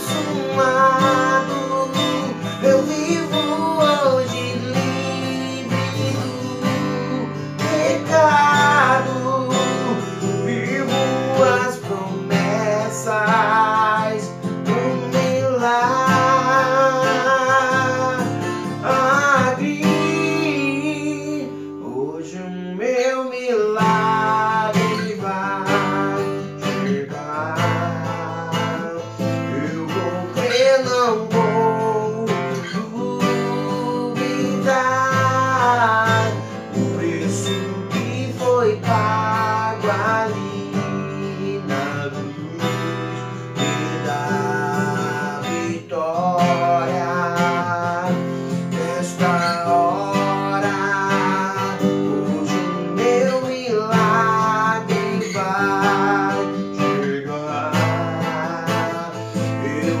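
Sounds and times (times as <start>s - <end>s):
acoustic guitar strumming: 0.0s - 60.0s
man singing: 0.0s - 60.0s.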